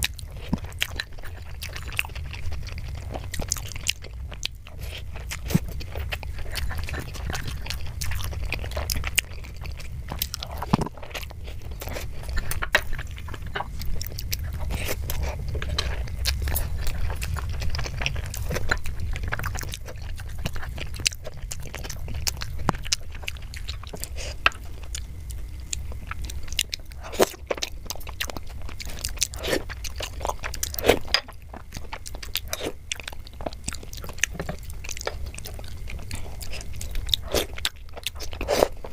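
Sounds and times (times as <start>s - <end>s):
chewing and biting: 0.0s - 38.9s
steady low hum: 0.0s - 38.9s.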